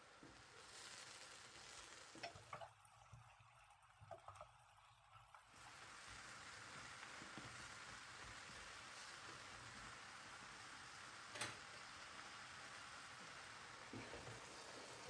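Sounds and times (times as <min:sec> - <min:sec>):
vegetables sizzling in a pan: 0:00.0 - 0:02.7, 0:05.4 - 0:15.0.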